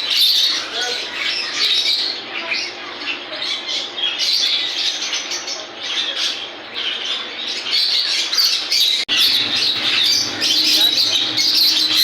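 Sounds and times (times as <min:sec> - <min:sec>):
parrots chattering and squawking: 0:00.0 - 0:12.0.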